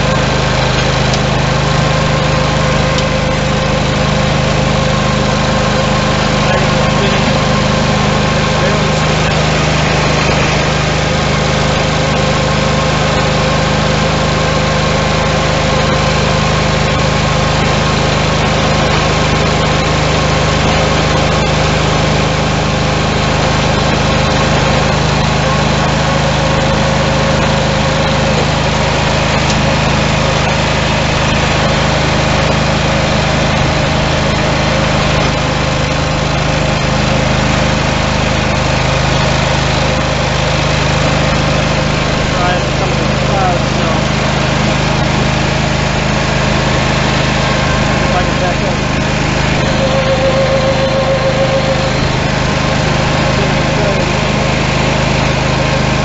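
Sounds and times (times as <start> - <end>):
garden tractor engine running: 0.0 - 56.0.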